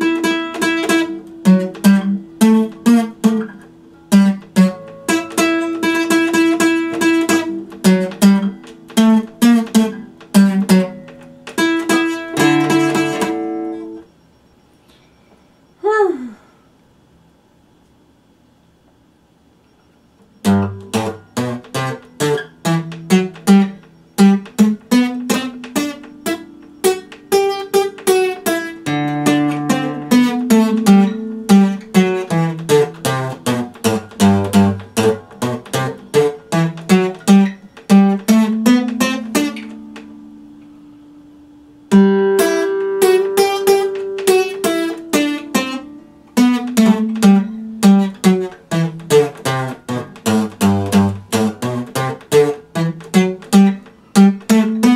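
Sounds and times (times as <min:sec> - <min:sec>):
acoustic guitar playing: 0:00.0 - 0:14.2, 0:20.2 - 0:54.9.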